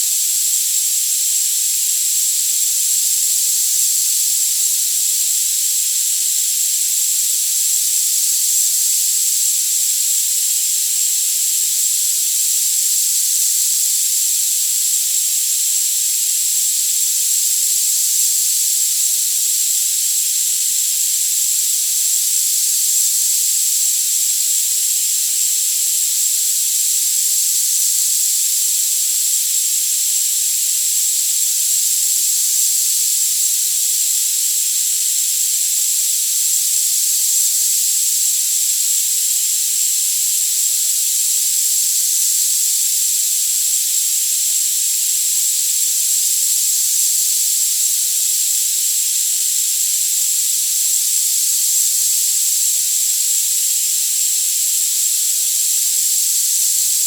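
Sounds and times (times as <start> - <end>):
high-pitched hiss: 0.0 - 57.0.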